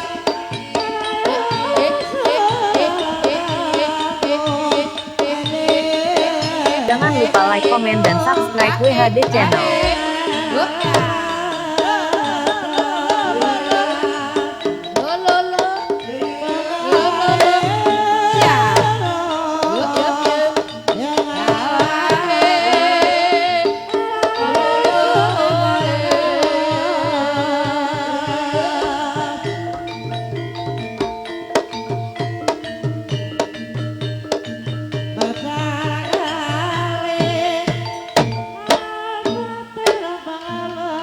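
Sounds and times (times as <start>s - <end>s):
person singing: 0.0s - 32.2s, 35.2s - 41.0s
hand drums beating: 0.0s - 41.0s
pitched metal instruments: 0.0s - 41.0s.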